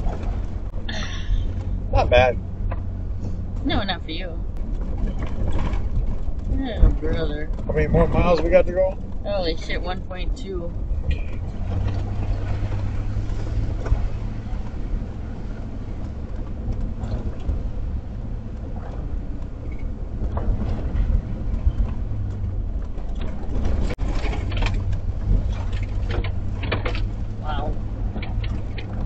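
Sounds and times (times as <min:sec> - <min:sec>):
van engine and road drone: 0:00.0 - 0:29.0.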